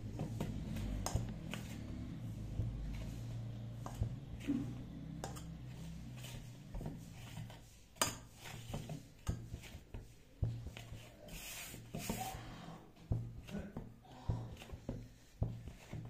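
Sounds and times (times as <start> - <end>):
hands kneading dough: 0.0 - 16.0.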